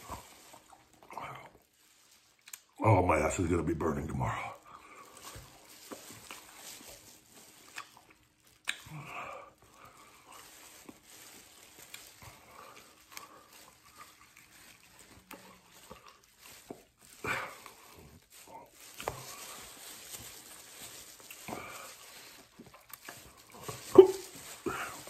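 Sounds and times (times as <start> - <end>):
man biting and chewing: 2.3 - 2.8, 4.8 - 11.0, 11.6 - 25.0.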